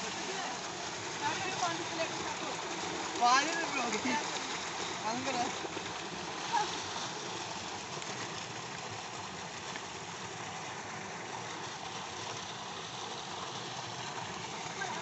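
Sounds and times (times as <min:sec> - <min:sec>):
water pouring into concrete tank: 0:00.0 - 0:15.0.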